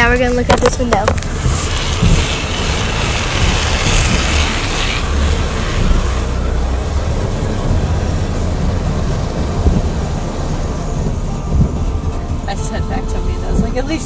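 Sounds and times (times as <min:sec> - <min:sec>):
car wash machinery rumble: 0:00.0 - 0:14.0
water spraying onto car: 0:00.0 - 0:14.0.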